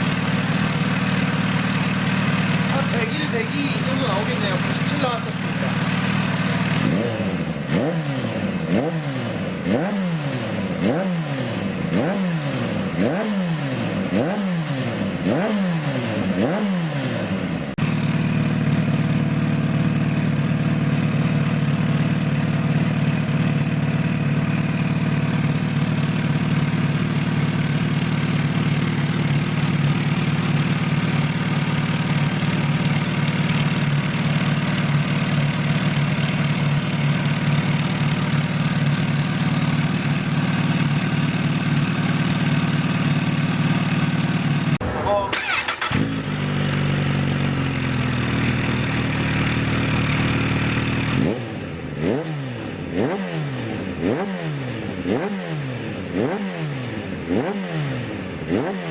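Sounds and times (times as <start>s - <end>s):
motorcycle engine idling: 0.0s - 53.0s
motorcycle engine revving: 0.0s - 58.9s.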